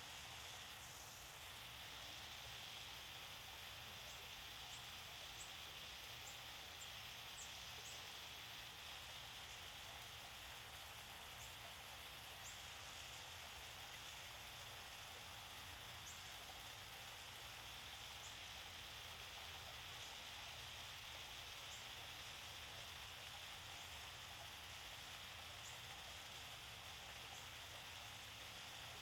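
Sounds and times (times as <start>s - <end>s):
small waterfall splashing: 0.0s - 29.0s.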